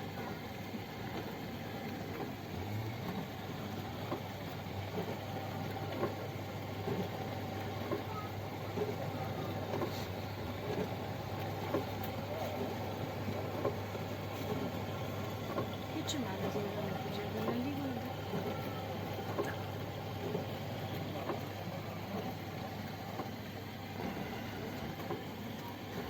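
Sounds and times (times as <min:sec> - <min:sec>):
dishwasher motor hum: 0:00.0 - 0:26.0.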